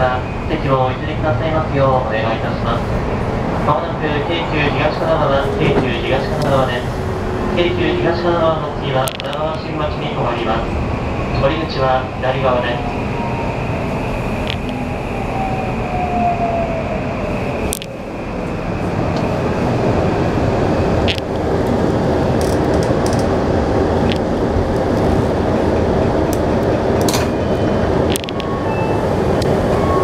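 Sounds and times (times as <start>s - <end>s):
train inverter whine: 0.0s - 30.0s
train running noise: 0.0s - 30.0s.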